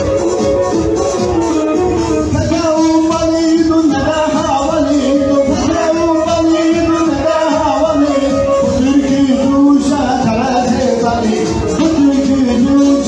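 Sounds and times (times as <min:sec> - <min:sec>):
band music through speakers: 0:00.0 - 0:13.0
man singing: 0:00.0 - 0:13.0.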